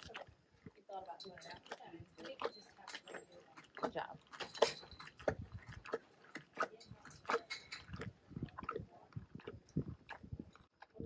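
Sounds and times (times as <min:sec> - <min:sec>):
big cat chewing meat on bone: 0:00.0 - 0:11.0.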